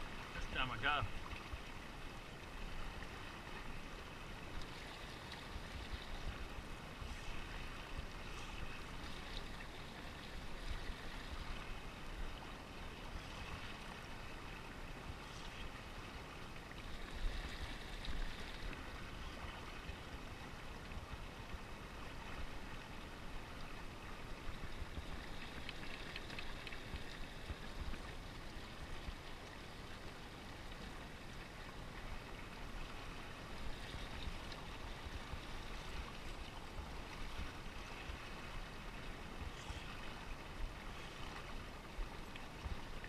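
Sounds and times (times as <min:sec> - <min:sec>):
water lapping against a boat: 0:00.0 - 0:43.0.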